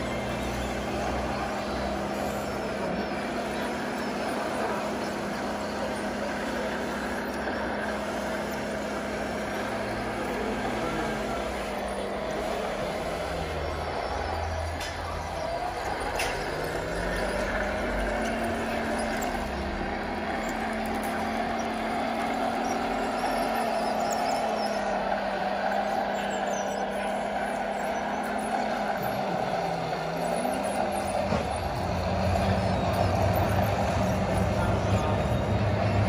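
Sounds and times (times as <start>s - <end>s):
model truck motor hum: 0.0s - 36.0s.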